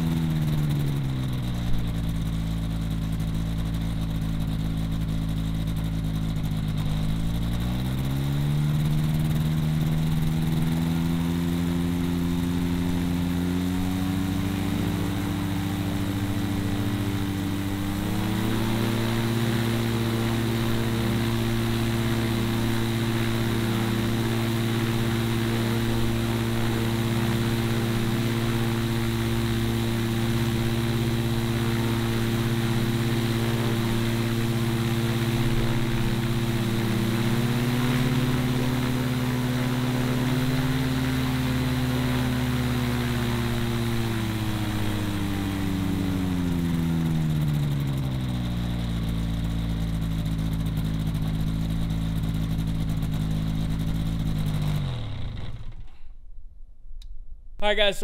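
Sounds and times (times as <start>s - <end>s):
two-stroke aircraft engine running: 0.0s - 56.1s.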